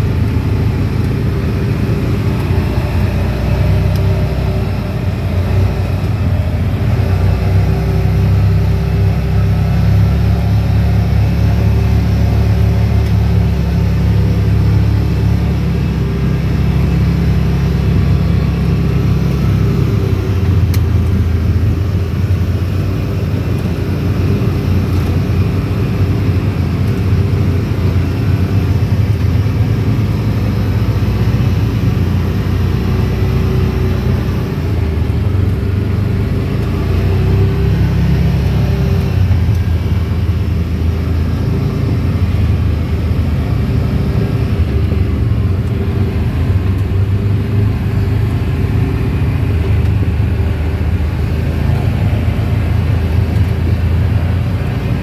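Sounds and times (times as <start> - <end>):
tyres on gravel road: 0.0 - 55.0
vehicle engine running: 0.0 - 55.0.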